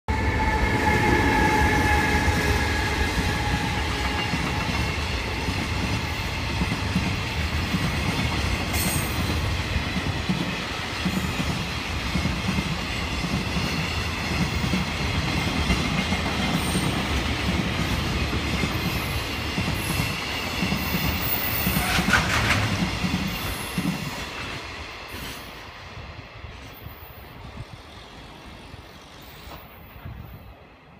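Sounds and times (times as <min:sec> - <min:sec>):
freight train wheels rumbling: 0:00.1 - 0:30.9.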